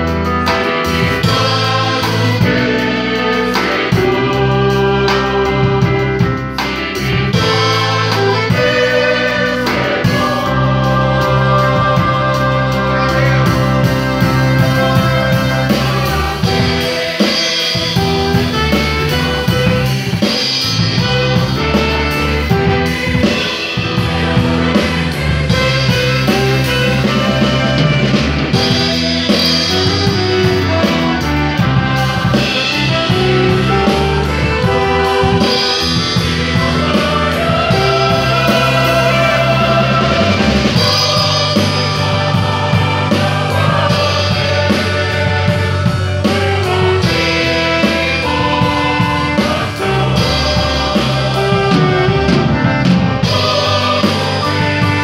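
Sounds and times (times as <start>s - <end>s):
drums and cymbals: 0.0s - 55.0s.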